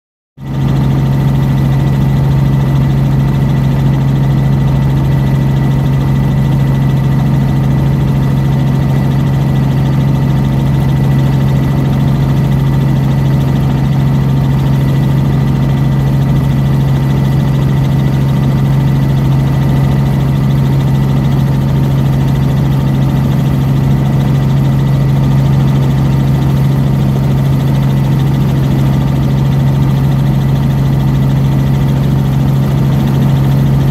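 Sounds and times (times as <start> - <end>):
small aircraft engine drone: 0.4 - 33.9.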